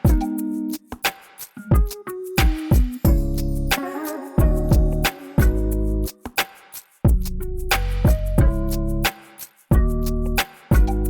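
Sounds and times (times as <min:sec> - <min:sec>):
hip hop beat with synth notes: 0:00.0 - 0:11.0.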